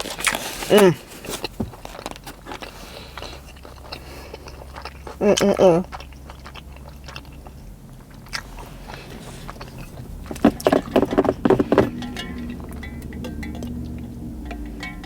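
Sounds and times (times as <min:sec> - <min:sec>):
wet chewing smacks: 0:00.0 - 0:15.0.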